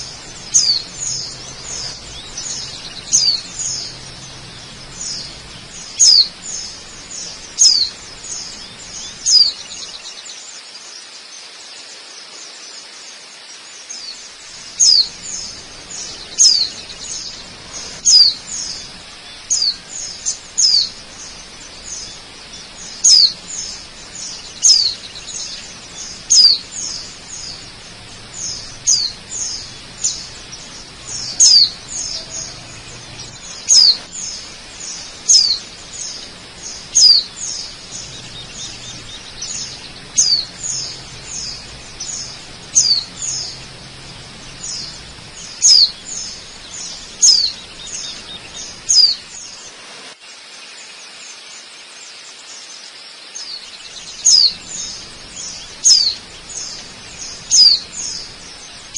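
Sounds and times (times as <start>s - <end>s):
birds whistling calls: 0.0s - 10.3s, 13.9s - 49.7s, 53.4s - 58.9s
steady background hiss: 0.0s - 58.9s.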